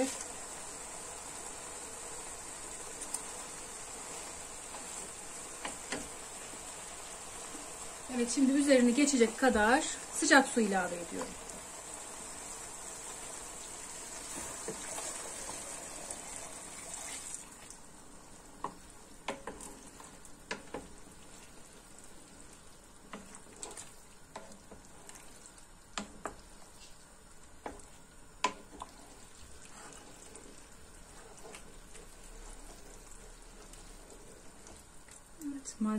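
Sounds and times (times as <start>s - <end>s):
wooden spoon stirring stew: 0.0s - 35.8s.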